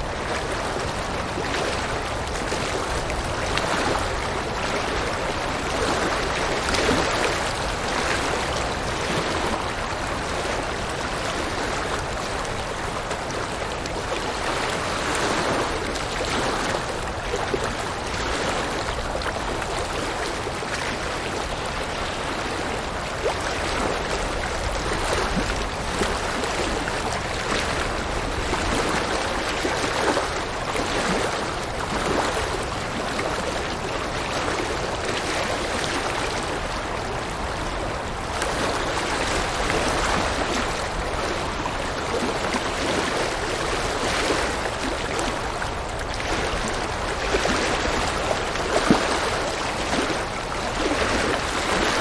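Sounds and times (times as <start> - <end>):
river water flowing over rocks: 0.0 - 52.0.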